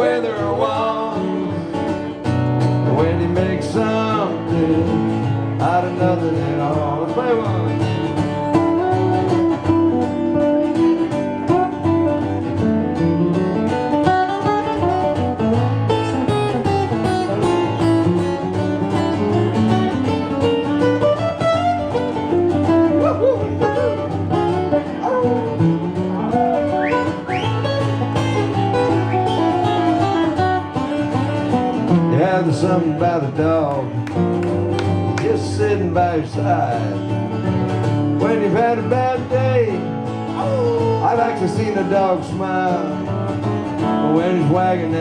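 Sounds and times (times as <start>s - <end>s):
acoustic guitar picking melody: 0.0s - 45.0s
strummed guitar accompaniment: 0.0s - 45.0s.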